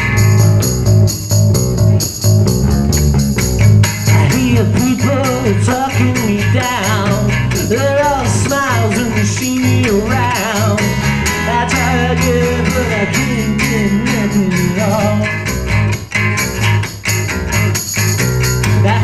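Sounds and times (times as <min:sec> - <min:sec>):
low bass notes: 0:00.0 - 0:19.0
strummed acoustic guitar: 0:03.6 - 0:19.0.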